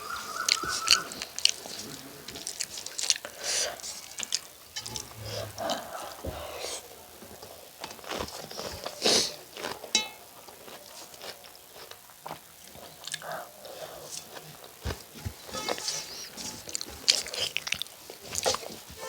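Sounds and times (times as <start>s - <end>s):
chewing food: 0.0s - 19.0s.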